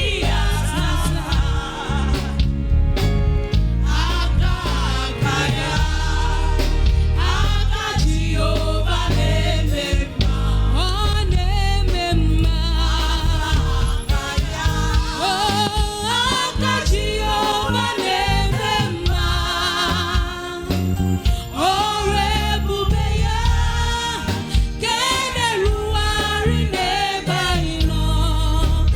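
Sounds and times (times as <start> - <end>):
gospel singers with a band: 0.0 - 28.9.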